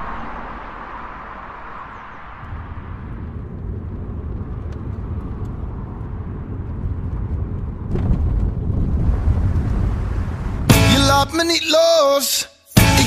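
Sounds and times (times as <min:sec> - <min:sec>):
tyre and engine rumble: 0:00.0 - 0:11.3.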